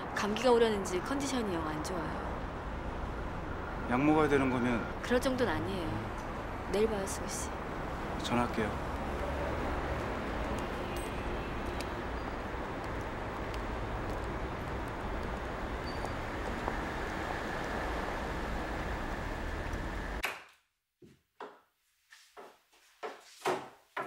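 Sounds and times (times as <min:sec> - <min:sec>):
street traffic noise: 0:00.0 - 0:20.2.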